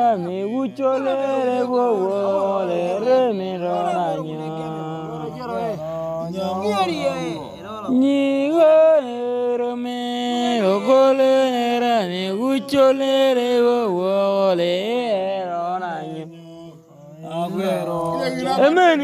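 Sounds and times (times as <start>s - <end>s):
person singing chant-like: 0.0s - 19.0s.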